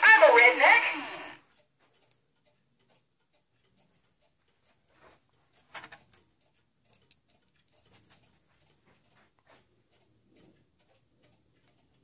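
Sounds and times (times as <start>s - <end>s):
faint clicks and ticks: 1.4s - 12.0s.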